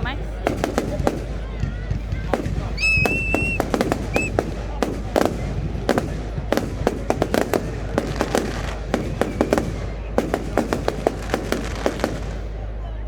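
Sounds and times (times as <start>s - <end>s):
fireworks exploding: 0.4s - 12.6s.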